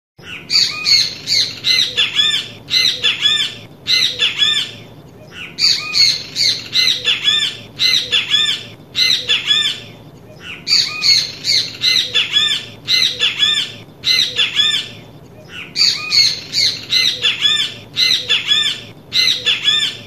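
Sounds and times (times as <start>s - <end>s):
bird calling harsh notes: 0.2s - 20.0s.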